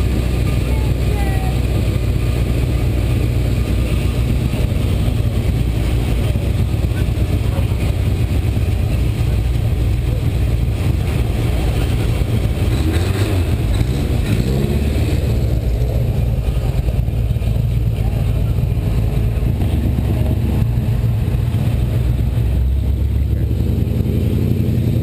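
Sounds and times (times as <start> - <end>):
car engines idling: 0.0 - 25.0.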